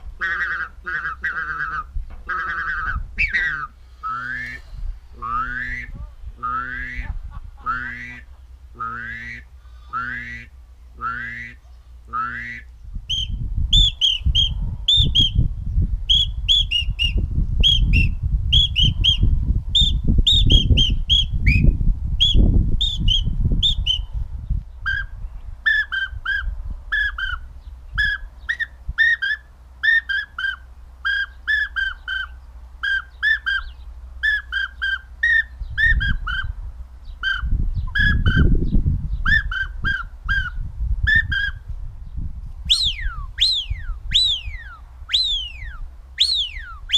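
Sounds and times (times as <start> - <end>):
wind rumble on microphone: 0.0 - 29.8, 35.2 - 46.9
finger whistling duck calls: 0.2 - 4.6, 5.2 - 15.4, 16.1 - 19.2, 19.8 - 24.1, 25.7 - 27.4, 28.0 - 36.5, 37.2 - 38.5, 39.3 - 41.6, 42.7 - 46.9.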